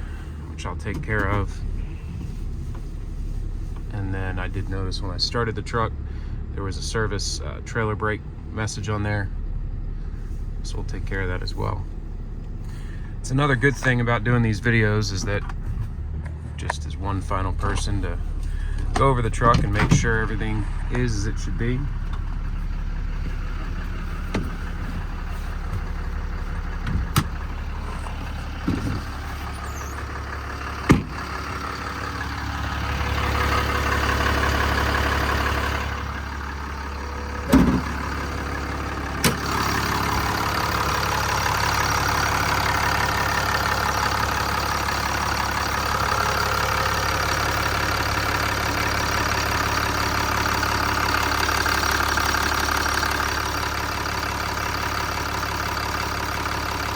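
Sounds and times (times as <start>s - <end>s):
diesel engine idling: 0.0s - 56.9s.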